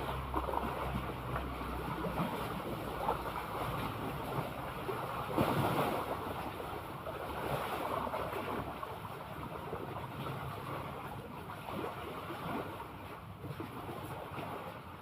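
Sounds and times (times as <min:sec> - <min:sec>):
sea waves washing and splashing: 0:00.0 - 0:15.0.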